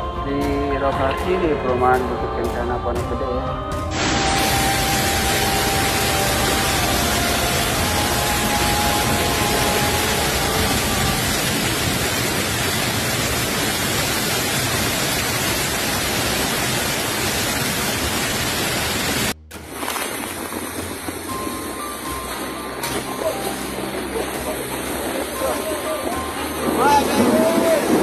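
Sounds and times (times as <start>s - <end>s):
wind: 1.4s - 28.0s
heavy rain: 3.9s - 28.0s.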